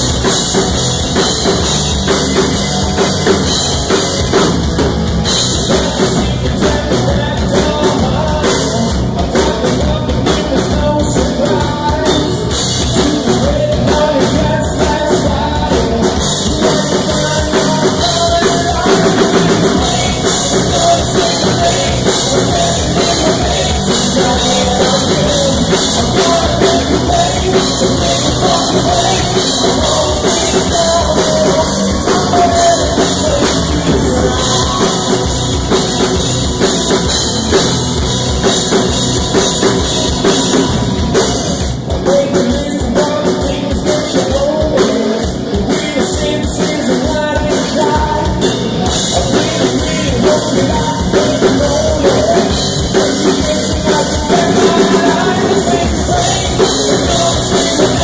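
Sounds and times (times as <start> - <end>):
driving drum kit: 0.0 - 58.0
electric guitar: 0.0 - 58.0
man singing: 5.2 - 37.3, 41.5 - 58.0.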